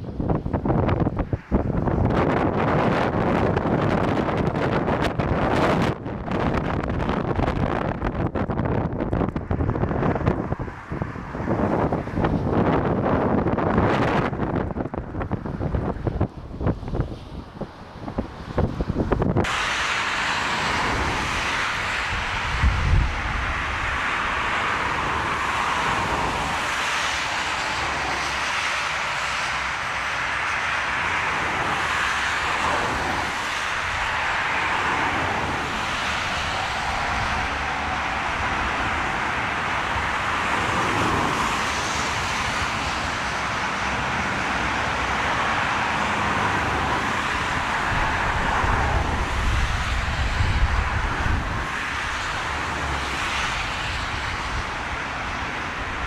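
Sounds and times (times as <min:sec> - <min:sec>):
jet engines roaring: 0:00.0 - 0:56.0
wind buffeting microphone: 0:00.0 - 0:56.0.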